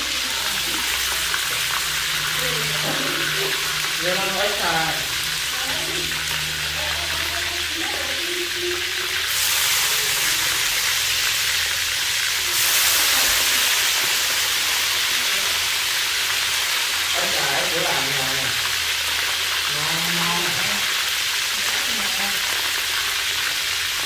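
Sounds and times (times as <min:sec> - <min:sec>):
frog sizzling in hot oil: 0:00.0 - 0:24.0.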